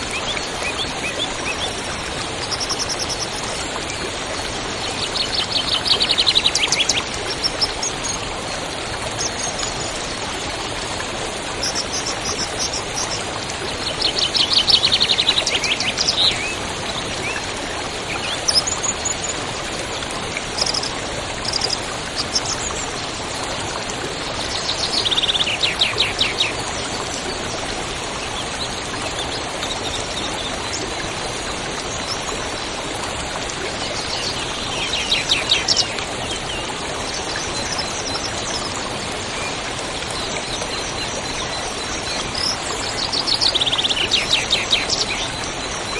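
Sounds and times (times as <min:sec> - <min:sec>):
river flowing: 0:00.0 - 0:45.9.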